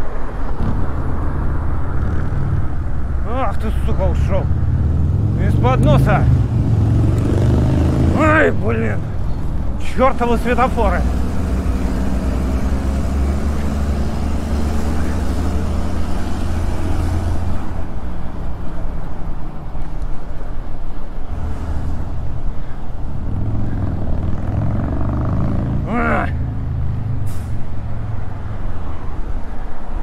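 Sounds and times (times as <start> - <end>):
city traffic: 0.0 - 30.0
motor vehicle engine humming: 0.0 - 30.0.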